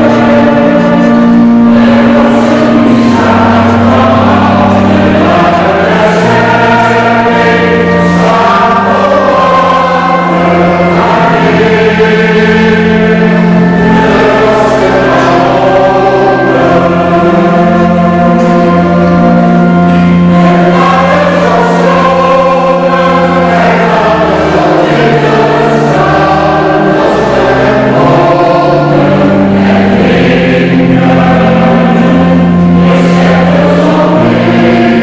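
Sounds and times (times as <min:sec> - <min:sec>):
church choir singing: 0:00.0 - 0:35.0
held low notes: 0:00.0 - 0:35.0.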